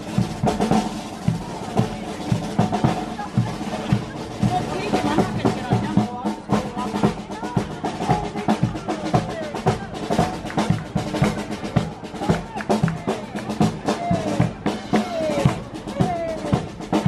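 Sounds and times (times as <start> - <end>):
bass drum and snare drum: 0.0 - 17.0
brass band playing: 0.0 - 17.0.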